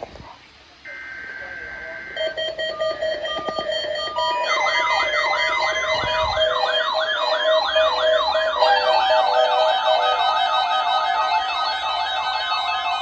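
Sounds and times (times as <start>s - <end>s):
warbling radio alert tone: 0.9s - 13.0s
faster warble tone: 1.2s - 13.0s.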